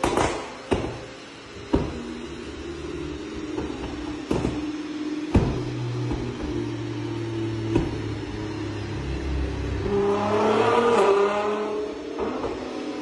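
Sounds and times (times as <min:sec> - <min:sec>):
car engine revving: 0:01.0 - 0:13.0.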